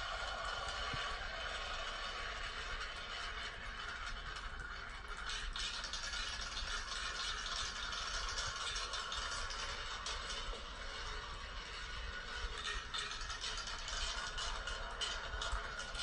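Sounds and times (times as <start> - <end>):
marbles rolling down track: 0.0 - 16.0.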